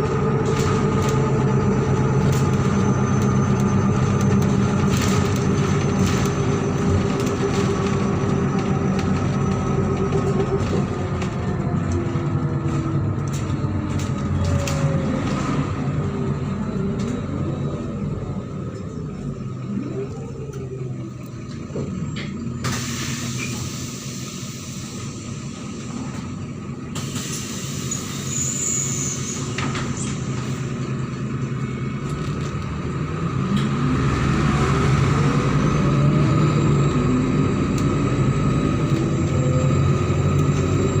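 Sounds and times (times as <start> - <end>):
bus diesel engine: 0.0 - 41.0.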